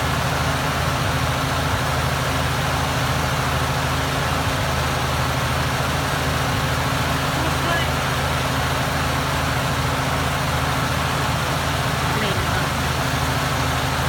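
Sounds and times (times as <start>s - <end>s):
tractor engine running steadily: 0.0s - 14.0s.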